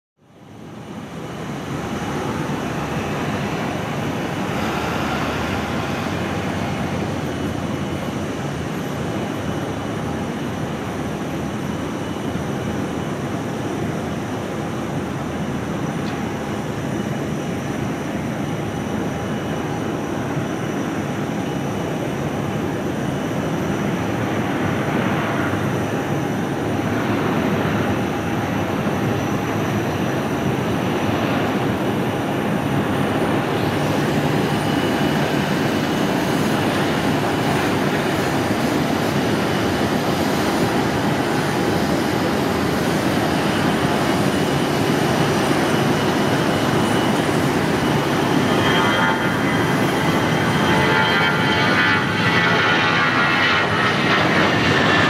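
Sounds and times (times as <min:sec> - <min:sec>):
jet engines droning: 0:00.2 - 0:55.0.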